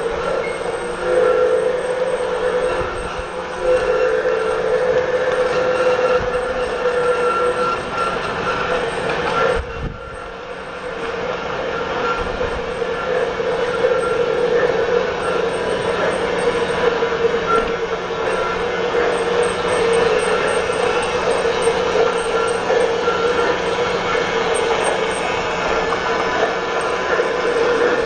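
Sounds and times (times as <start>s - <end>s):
model train wheels running: 0.0s - 28.0s
small electric motor whining: 0.0s - 28.0s.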